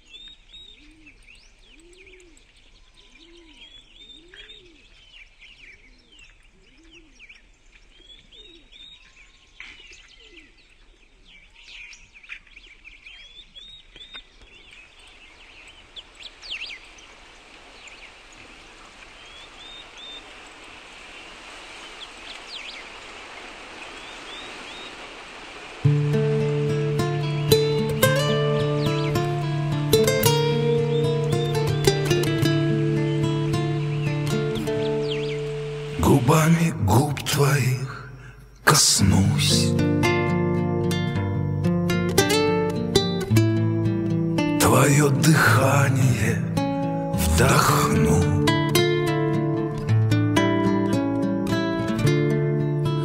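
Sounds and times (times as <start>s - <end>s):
songbirds chirping and trilling: 0.0s - 50.0s
low repeated bird calls: 0.0s - 53.0s.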